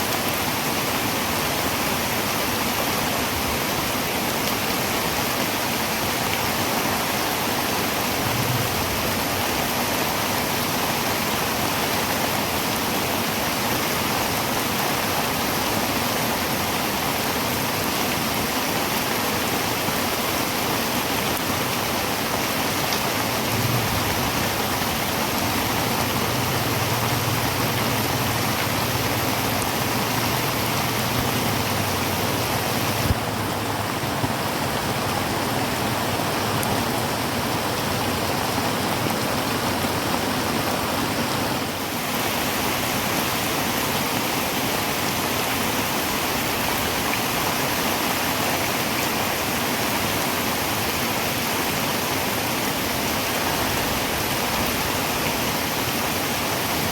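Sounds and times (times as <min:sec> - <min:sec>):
heavy rain on a tin roof: 0:00.0 - 0:56.9.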